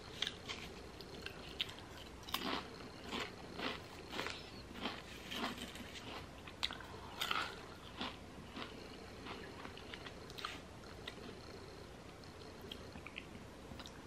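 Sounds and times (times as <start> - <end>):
crunching and chewing chips: 0.0 - 14.0.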